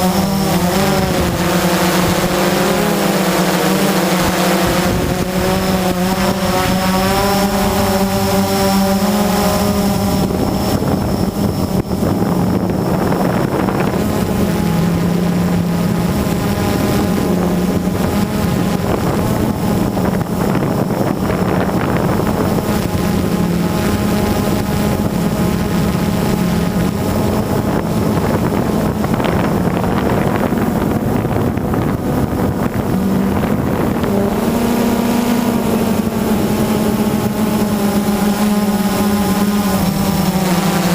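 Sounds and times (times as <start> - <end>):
drone propellers whirring: 0.0 - 40.9
wind noise on microphone: 0.0 - 40.9.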